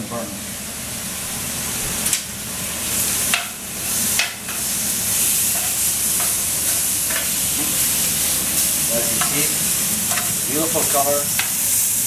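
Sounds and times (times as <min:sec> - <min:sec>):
skewers sizzling on grill pan: 0:01.9 - 0:12.0.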